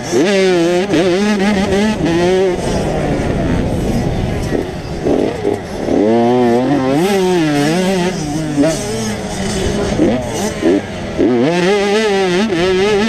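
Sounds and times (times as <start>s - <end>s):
close motorbike revving: 0.0s - 13.0s
motocross bike engines: 0.0s - 13.0s.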